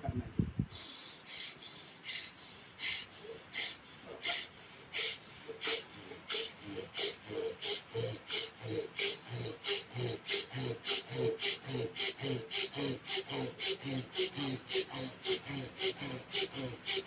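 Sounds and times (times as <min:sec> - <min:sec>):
rapid forceful nose breaths: 0:00.7 - 0:17.0.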